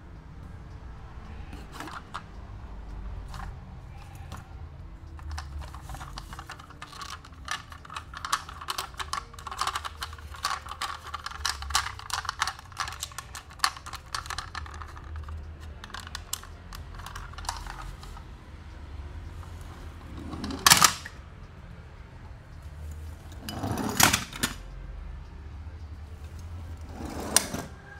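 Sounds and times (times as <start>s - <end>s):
toy car clicking and tapping: 1.2s - 21.3s, 23.2s - 24.7s, 26.2s - 27.9s.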